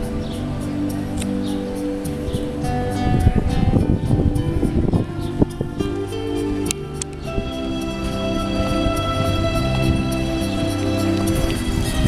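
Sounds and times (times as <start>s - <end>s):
street musician playing: 0.0s - 12.0s.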